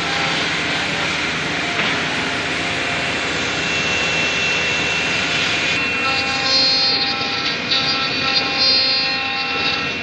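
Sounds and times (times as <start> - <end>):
cnc router cutting wood: 0.0 - 10.0
thin high whine: 0.0 - 10.0.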